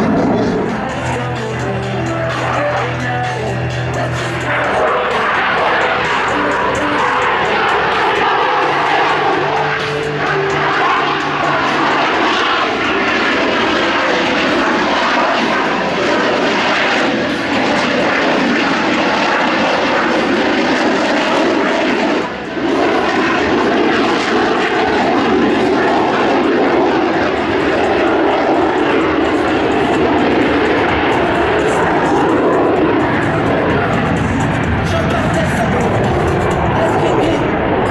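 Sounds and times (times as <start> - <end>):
aircraft engine in flight: 0.0 - 37.9.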